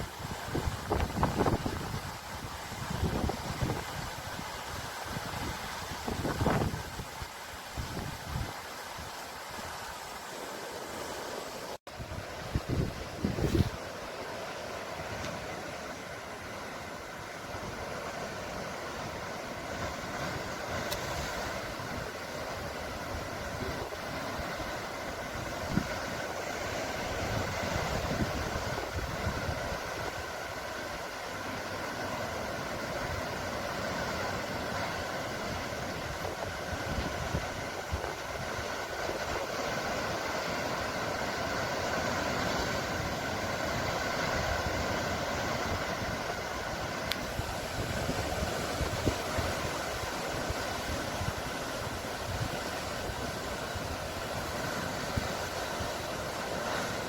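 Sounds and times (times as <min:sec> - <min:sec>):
sea water rushing: 0:00.0 - 0:57.0.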